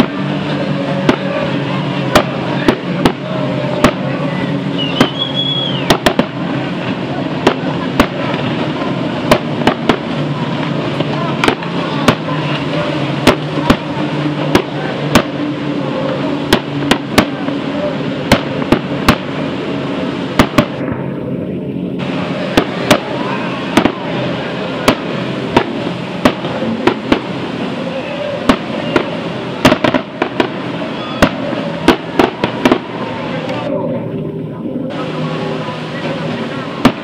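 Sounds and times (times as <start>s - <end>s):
firecrackers banging: 0.0s - 34.2s, 34.8s - 37.0s
speedboat engines droning: 0.0s - 37.0s.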